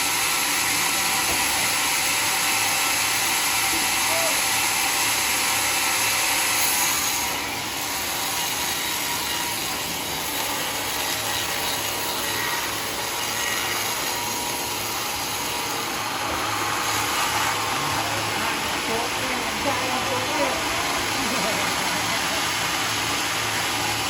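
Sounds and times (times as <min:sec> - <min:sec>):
sawmill saw cutting wood: 0:00.0 - 0:24.0.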